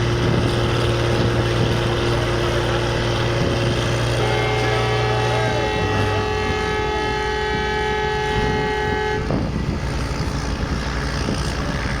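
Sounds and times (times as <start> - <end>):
horn steady note: 0.0 - 10.1
low engine rumble: 0.0 - 12.0.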